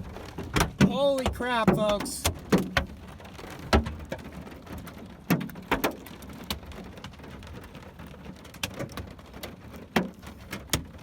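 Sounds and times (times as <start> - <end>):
hailstones cracking on a car: 0.0 - 11.0
patter of rain and hail: 0.0 - 11.0.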